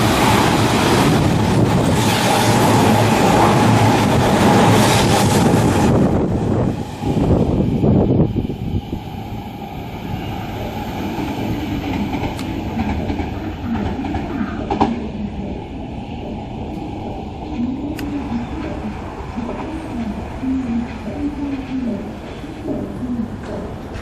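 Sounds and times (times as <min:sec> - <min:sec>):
electric train running: 0:00.0 - 0:24.0.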